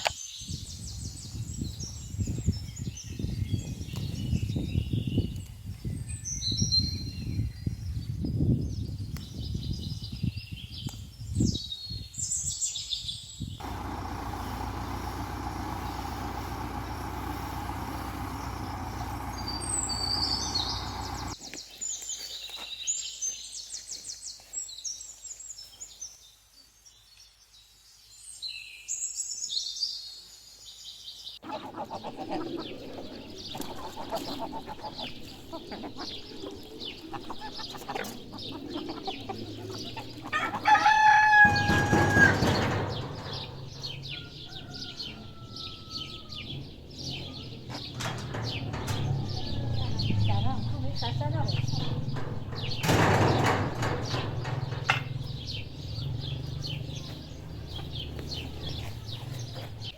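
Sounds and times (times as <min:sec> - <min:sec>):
outdoor background noise: 0:00.0 - 0:59.9
small birds chirping: 0:00.0 - 0:59.9.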